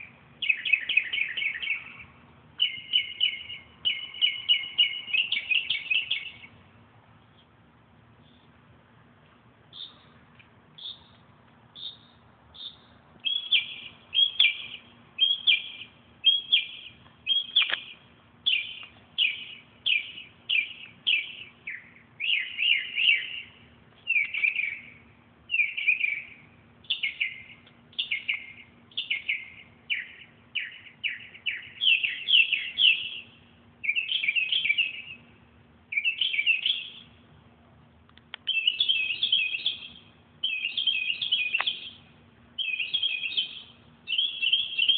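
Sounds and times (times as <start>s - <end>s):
bird chirping: 0.0s - 6.6s, 8.2s - 8.6s, 9.7s - 37.2s, 38.3s - 44.9s
faint steady hum: 0.0s - 44.9s.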